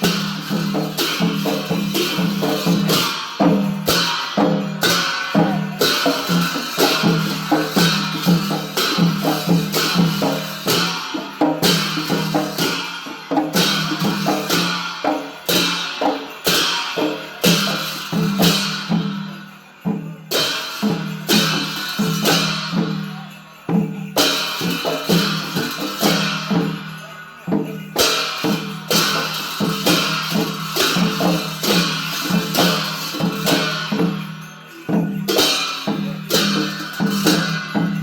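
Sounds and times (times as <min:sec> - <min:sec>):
fast drum rhythm: 0:00.0 - 0:38.0
loud cymbal clashes: 0:00.0 - 0:38.0.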